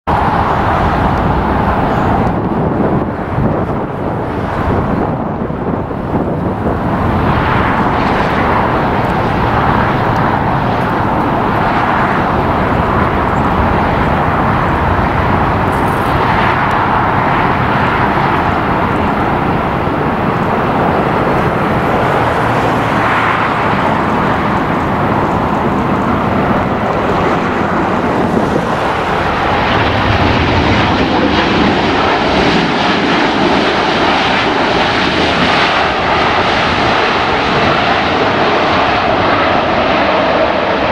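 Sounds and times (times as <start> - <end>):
jet engine rumble and rush: 0.0 - 40.9.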